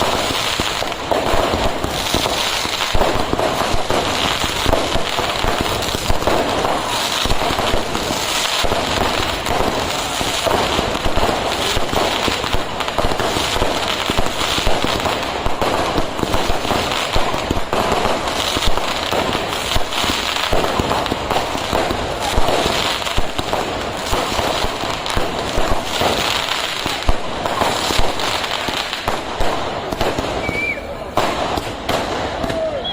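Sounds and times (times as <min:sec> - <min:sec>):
fireworks bangs and crackling: 0:00.0 - 0:32.9.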